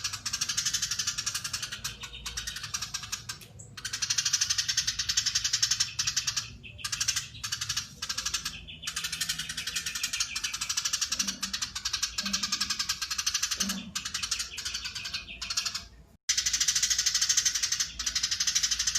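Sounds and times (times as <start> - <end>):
sparrow chattering call: 0.0 - 18.9.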